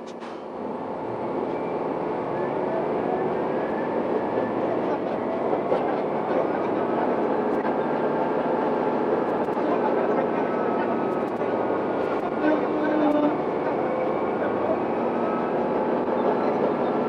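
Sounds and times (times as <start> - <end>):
diesel railcar pulling away: 0.0 - 17.0.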